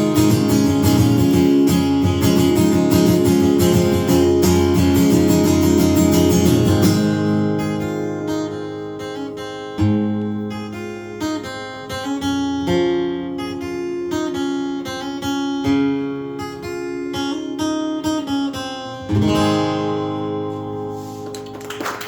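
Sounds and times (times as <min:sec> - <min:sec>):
acoustic guitar chords: 0:00.0 - 0:21.8.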